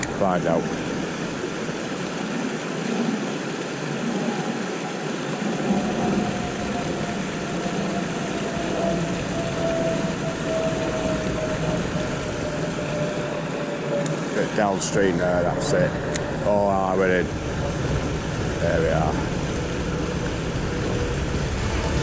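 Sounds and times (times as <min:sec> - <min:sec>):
water rushing over a weir: 0:00.0 - 0:22.0
faint hum falling in pitch: 0:04.0 - 0:22.0.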